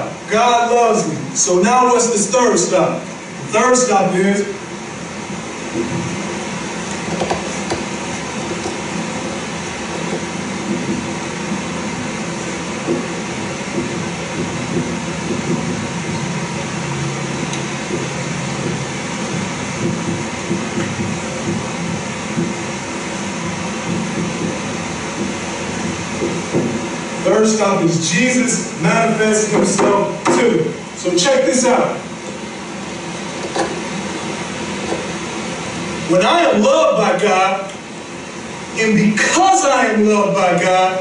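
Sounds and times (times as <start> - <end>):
rumbling noise with low hum: 0.0 - 41.0.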